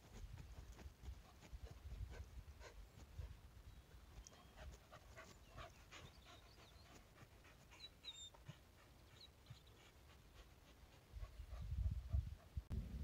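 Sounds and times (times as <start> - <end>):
dog panting: 0.0 - 3.4, 4.2 - 12.6.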